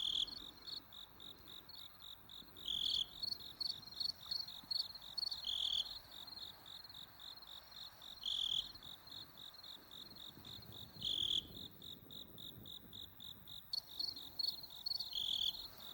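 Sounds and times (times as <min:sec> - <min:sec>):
louder longer insect chirp: 0:00.0 - 0:10.1, 0:10.9 - 0:11.7, 0:13.8 - 0:15.9
insects chirping rapidly: 0:00.0 - 0:15.9.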